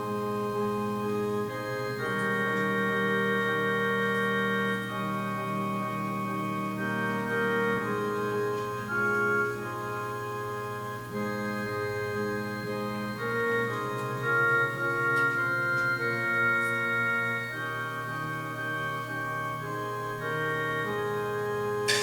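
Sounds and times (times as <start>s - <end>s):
slow organ music: 0.0s - 22.0s.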